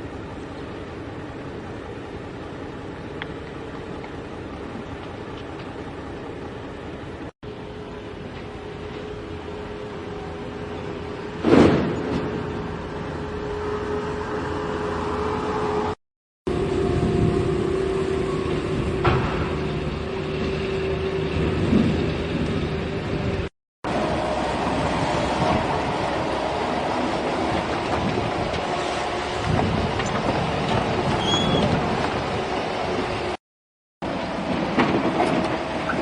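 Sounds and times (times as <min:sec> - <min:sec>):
heavy vehicle engine running: 0:00.0 - 0:33.4.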